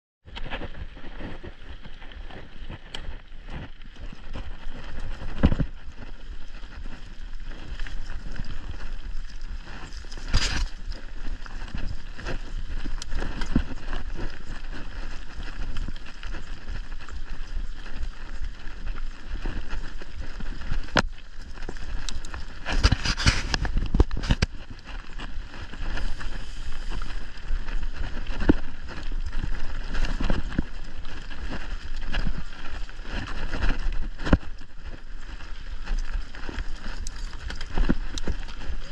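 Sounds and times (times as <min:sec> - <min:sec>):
bike tyres on dirt trail: 0:00.3 - 0:38.9
bike rattling: 0:00.4 - 0:38.9.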